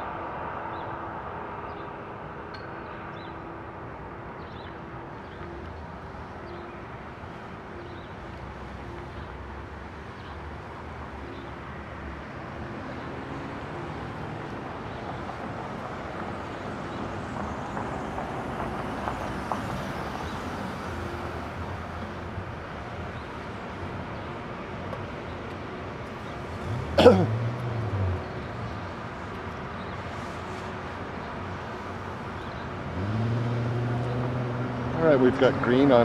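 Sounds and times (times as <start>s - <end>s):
cars driving past: 0.0s - 36.0s.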